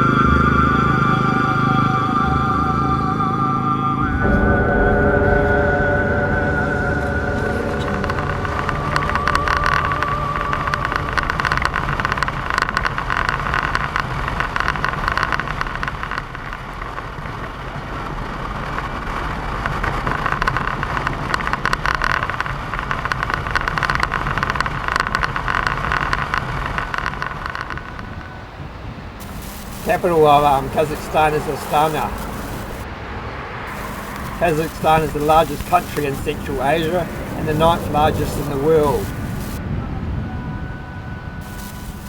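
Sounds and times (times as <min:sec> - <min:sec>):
motorcycle engine and road noise: 0:00.0 - 0:42.0.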